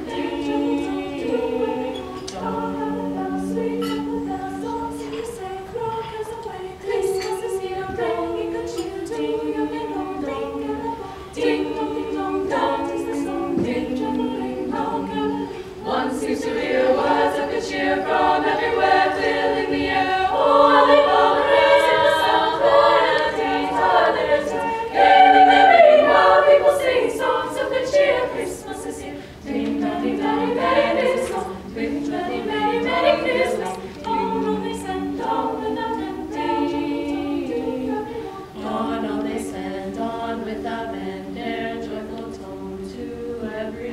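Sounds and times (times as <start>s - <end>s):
choir singing a cappella: 0.0s - 43.9s.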